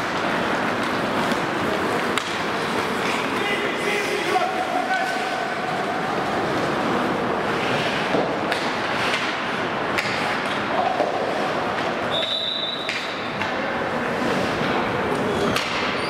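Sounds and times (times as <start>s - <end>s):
hockey sticks and puck clacking: 0.0s - 16.0s
skates scraping on ice: 0.0s - 16.0s.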